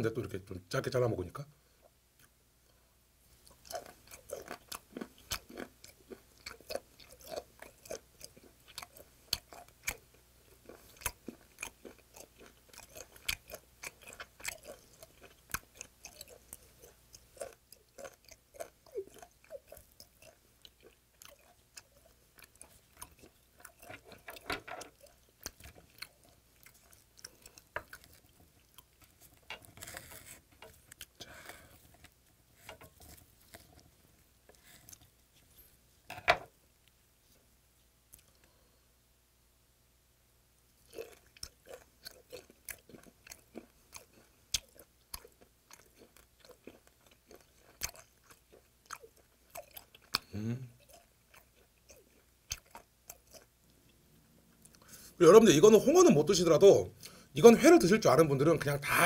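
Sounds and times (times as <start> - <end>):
chewing with wet clicks and crunches: 3.4 - 35.7, 38.1 - 38.7, 40.8 - 55.2.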